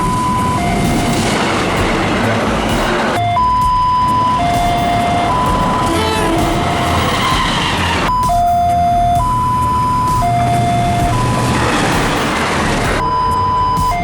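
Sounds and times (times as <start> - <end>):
level crossing alarm two-tone: 0.0 - 12.3, 12.9 - 14.0
passing train rushing: 0.0 - 14.0.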